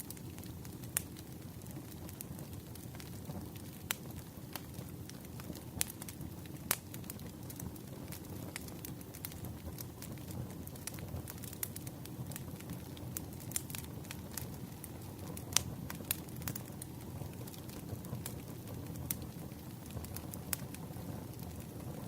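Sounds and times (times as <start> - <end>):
bonfire crackling: 0.0 - 22.0.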